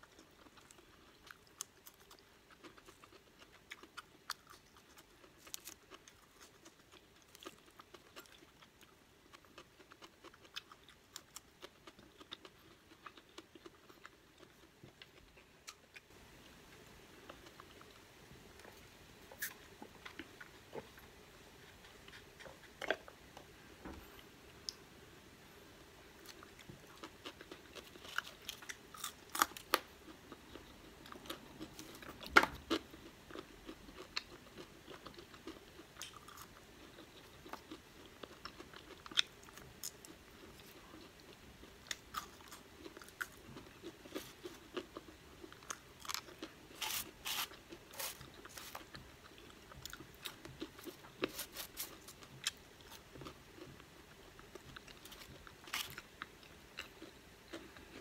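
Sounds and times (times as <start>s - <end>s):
chewing and crunching fries: 0.0s - 18.7s, 26.2s - 58.0s.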